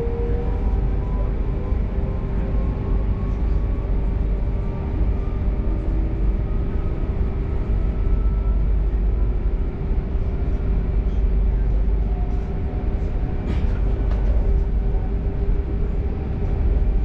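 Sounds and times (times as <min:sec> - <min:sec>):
train rumbling inside carriage: 0:00.0 - 0:17.0.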